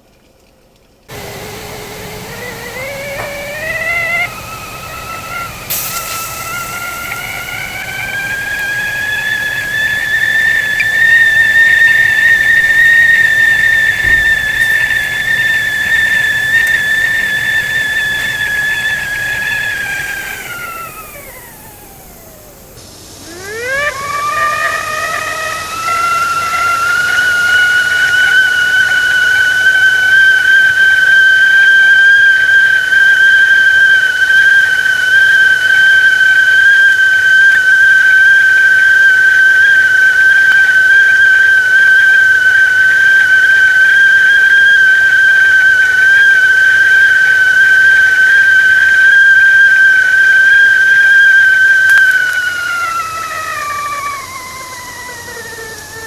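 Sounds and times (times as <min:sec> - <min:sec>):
whistling kettle: 0:00.0 - 0:56.0.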